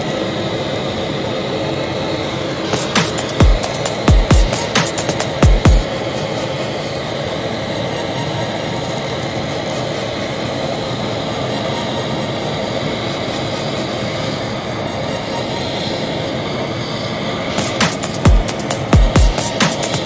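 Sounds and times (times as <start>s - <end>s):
blowtorch roaring: 0.0s - 20.0s.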